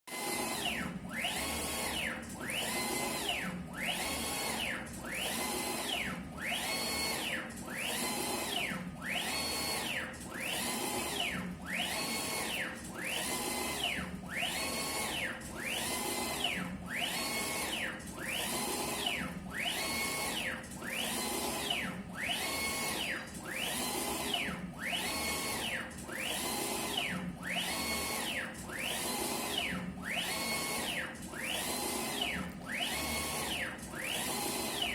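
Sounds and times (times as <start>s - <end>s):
printer carriage motor whine: 0.2s - 34.9s.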